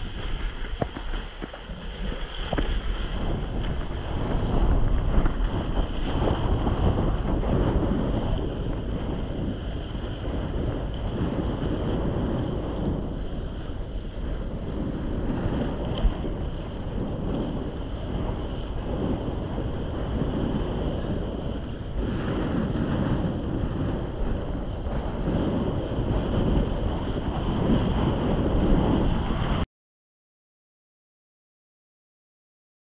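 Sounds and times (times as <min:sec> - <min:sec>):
water rushing under a board: 0:00.0 - 0:29.6
wind buffeting microphone: 0:00.0 - 0:29.6.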